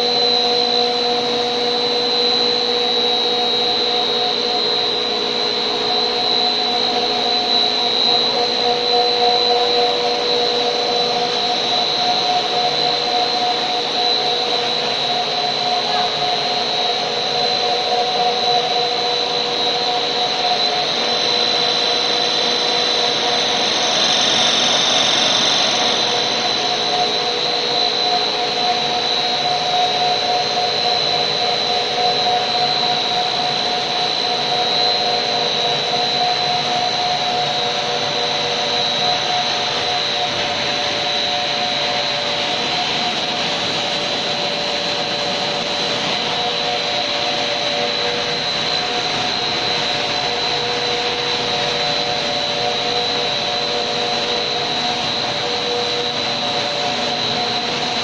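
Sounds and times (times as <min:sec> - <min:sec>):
extruder machine running: 0:00.0 - 0:58.0
high machine whine: 0:00.0 - 0:58.0.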